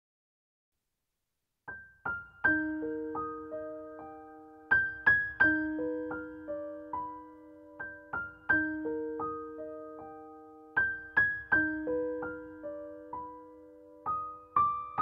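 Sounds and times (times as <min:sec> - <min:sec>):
soft music of ringing notes: 0:02.4 - 0:15.0.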